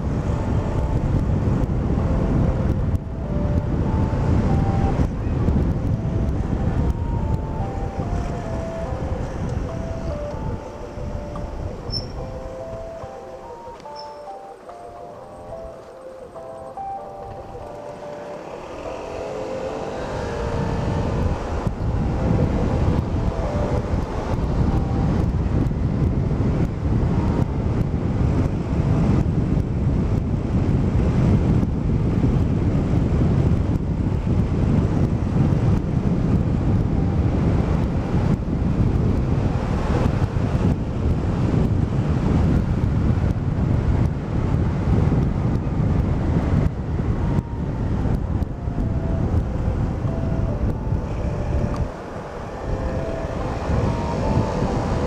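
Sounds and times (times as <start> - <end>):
engine and road drone: 0.0 - 55.0
wind rushing over microphone: 0.0 - 55.0.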